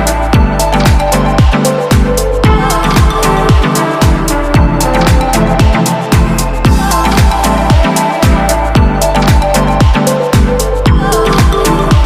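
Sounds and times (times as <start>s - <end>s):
electronic dance music: 0.0s - 12.0s
kick drum: 0.4s - 12.0s.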